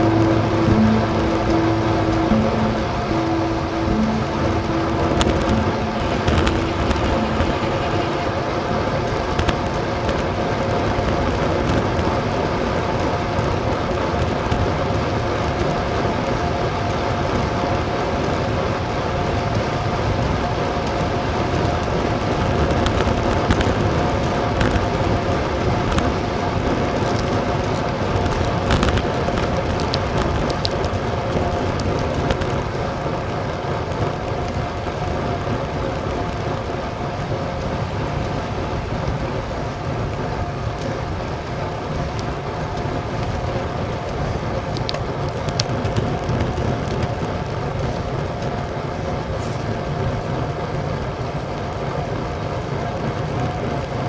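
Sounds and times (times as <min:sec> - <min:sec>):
bicycle tyres on asphalt: 0:00.0 - 0:54.0
steady hum: 0:00.0 - 0:54.0
wind on microphone: 0:00.0 - 0:54.0
bike rattling over bumps: 0:08.6 - 0:54.0.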